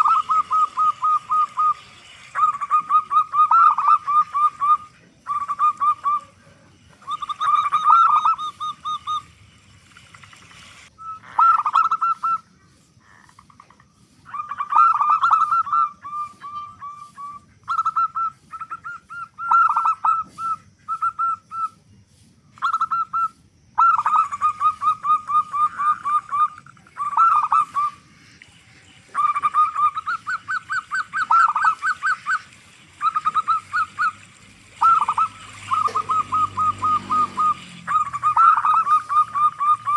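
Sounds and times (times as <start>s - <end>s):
dove cooing: 0.0s - 9.4s, 11.0s - 21.8s, 22.6s - 39.9s.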